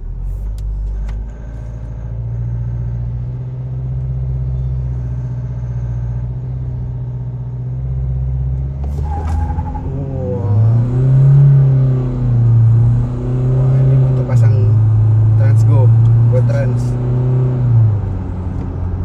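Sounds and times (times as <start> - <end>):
diesel engine drone from cabin: 0.0 - 19.0.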